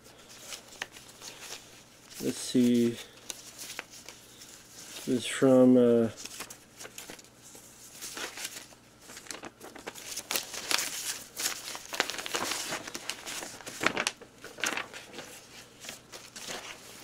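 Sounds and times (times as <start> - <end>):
paper rustling: 0.0 - 17.0.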